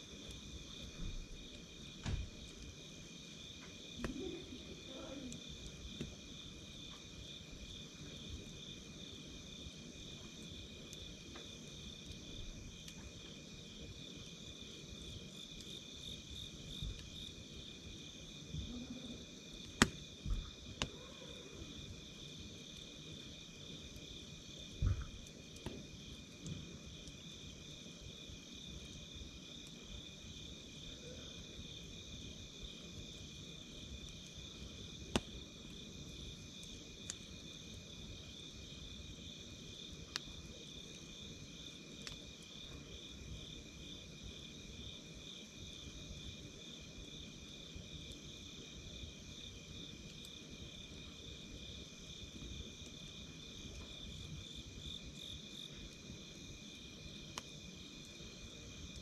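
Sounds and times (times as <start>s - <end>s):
campfire crackling and popping: 0.0s - 45.2s, 45.9s - 59.0s
night insects trilling: 0.0s - 59.0s.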